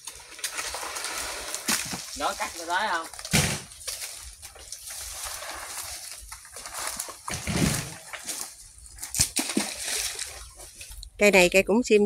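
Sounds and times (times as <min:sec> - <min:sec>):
dry fronds rustling and crackling: 0:00.0 - 0:11.2.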